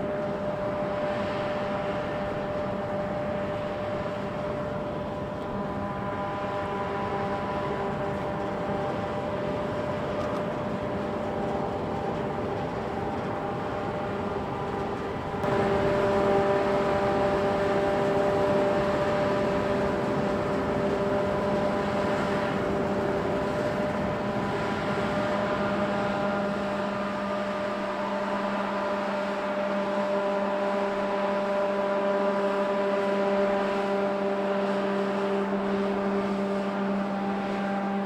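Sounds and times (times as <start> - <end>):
mechanical whirring hum: 0.0 - 38.0.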